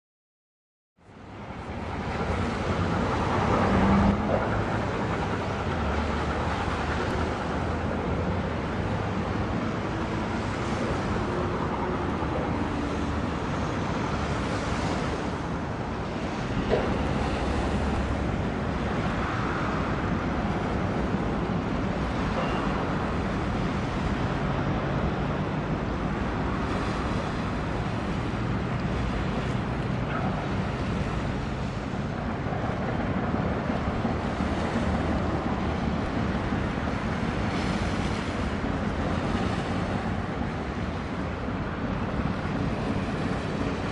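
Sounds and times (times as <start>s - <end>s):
low rumble of passing ship: 1.0s - 43.9s
waves washing on water: 1.1s - 43.9s.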